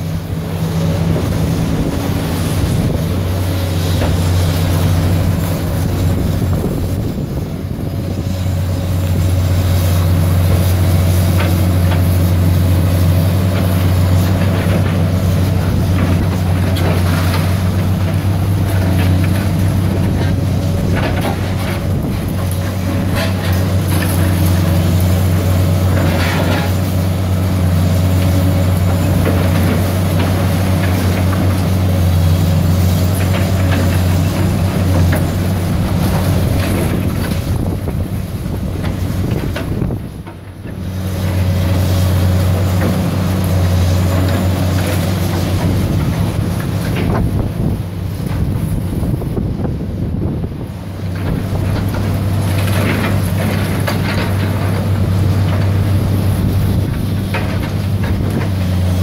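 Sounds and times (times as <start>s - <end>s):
diesel excavator engines: 0.0s - 59.0s.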